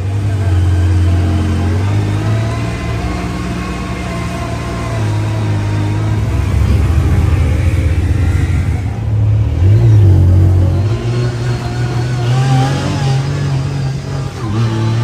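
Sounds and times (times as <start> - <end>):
engine running under load: 0.0 - 15.0.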